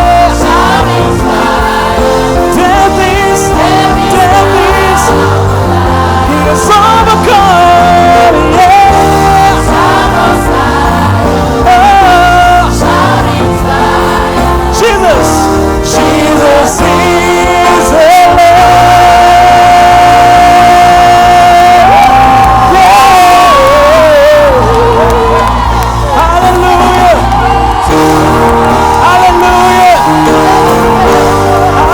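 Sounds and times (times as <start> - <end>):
person singing: 0.0 - 27.2
worship band playing: 0.0 - 31.9.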